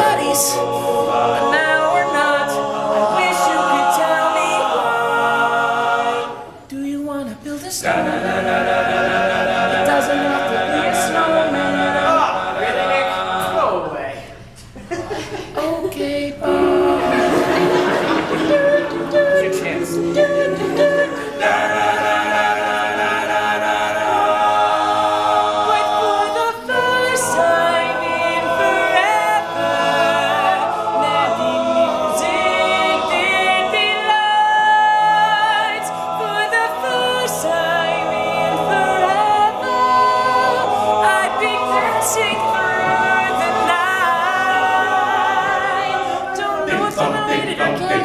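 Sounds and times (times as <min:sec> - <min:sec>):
male group singing in harmony: 0:00.0 - 0:06.7, 0:07.8 - 0:14.5, 0:15.9 - 0:48.0.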